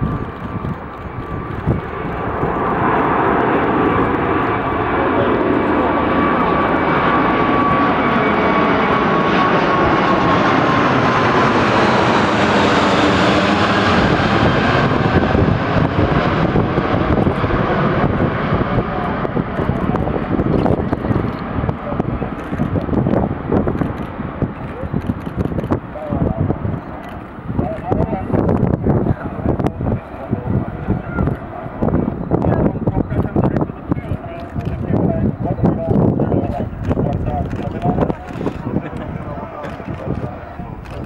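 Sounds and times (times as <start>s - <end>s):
jet fan whine dropping in pitch: 0.0s - 34.0s
jet airliner rumble: 0.0s - 41.0s.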